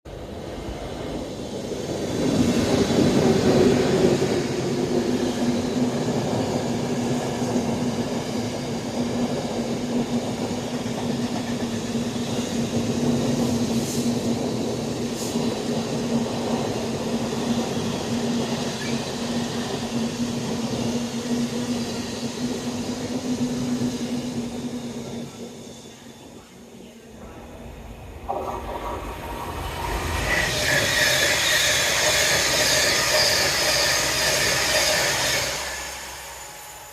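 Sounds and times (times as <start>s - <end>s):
electric locomotives passing: 0.1s - 36.9s.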